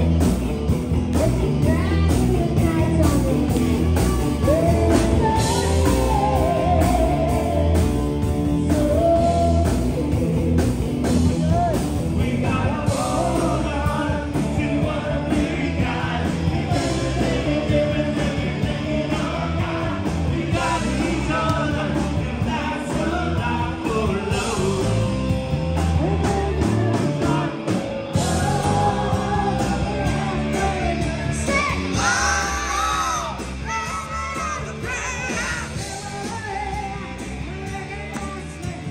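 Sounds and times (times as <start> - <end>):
drums: 0.0 - 38.9
electric guitars: 0.0 - 38.9
person singing: 1.1 - 10.6, 11.3 - 38.9.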